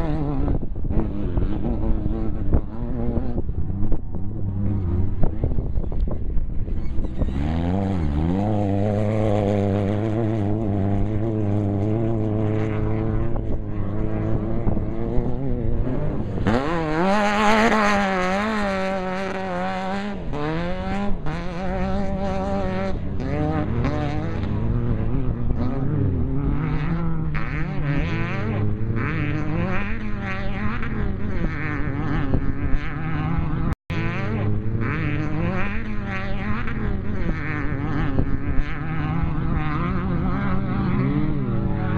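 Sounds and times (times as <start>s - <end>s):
race vehicle engine revving: 0.0s - 41.9s.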